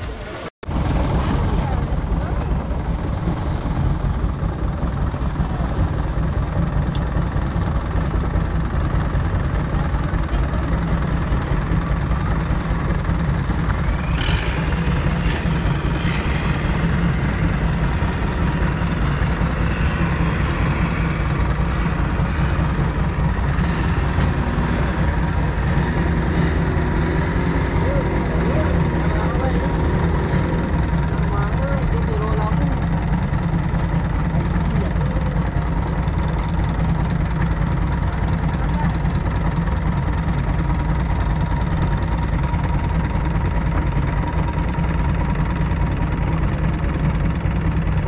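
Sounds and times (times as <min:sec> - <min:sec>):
boat engine droning: 0:00.0 - 0:48.0
propeller churning water: 0:00.0 - 0:48.0.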